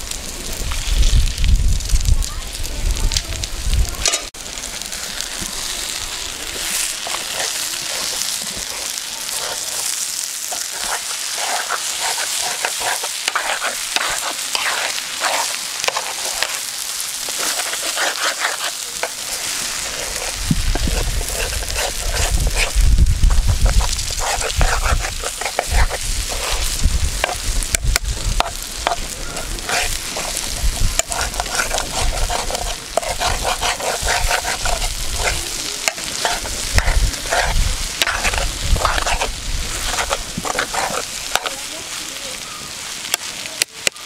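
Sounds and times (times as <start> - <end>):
food sizzling in a frying pan: 0.0 - 44.0
spoon scraping a pan: 4.0 - 4.3, 6.5 - 42.0.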